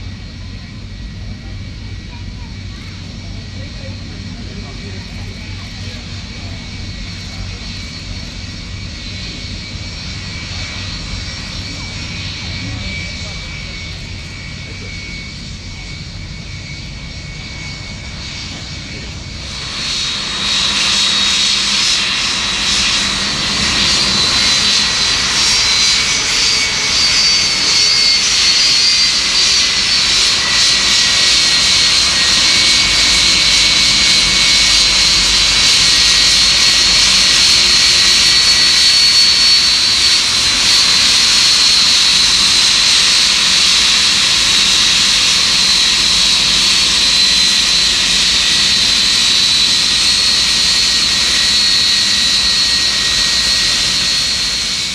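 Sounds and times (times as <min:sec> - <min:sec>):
jet airliner taxiing: 0:00.0 - 0:54.9.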